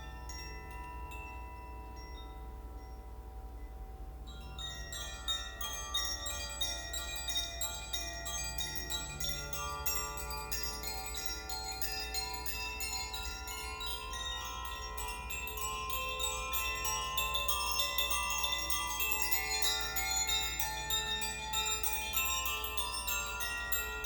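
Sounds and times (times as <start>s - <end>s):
wind chimes tinkling: 0.0s - 24.0s.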